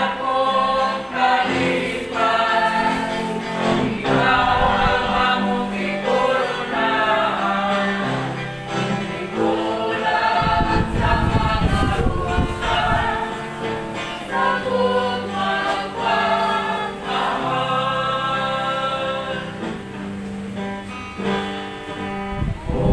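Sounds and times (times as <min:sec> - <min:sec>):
group singing a hymn: 0:00.0 - 0:22.9.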